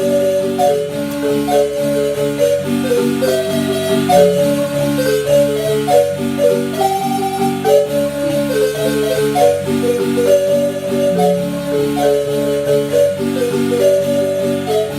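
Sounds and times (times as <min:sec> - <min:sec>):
marimba music: 0:00.0 - 0:14.9.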